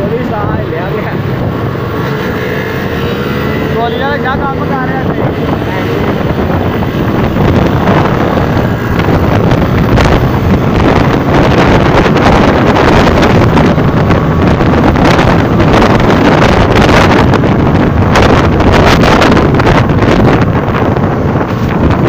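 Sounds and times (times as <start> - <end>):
road and traffic rumble: 0.0 - 22.0
wind buffeting microphone: 0.0 - 22.0.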